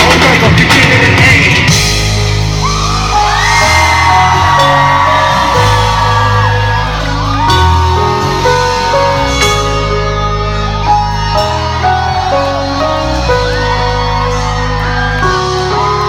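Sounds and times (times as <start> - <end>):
live band playing: 0.0 - 16.0
crowd yelling and whooping: 2.0 - 16.0.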